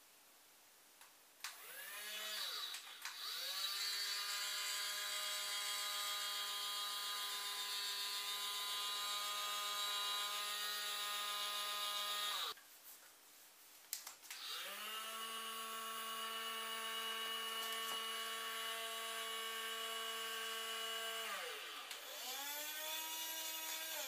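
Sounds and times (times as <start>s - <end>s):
toy electric motor whirring: 1.5s - 12.6s, 14.4s - 24.0s.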